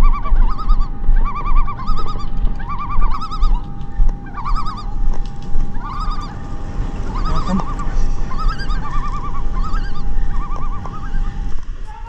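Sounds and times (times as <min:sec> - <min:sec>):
bird chirping in trills: 0:00.0 - 0:12.0
wind buffeting microphone: 0:00.0 - 0:12.0.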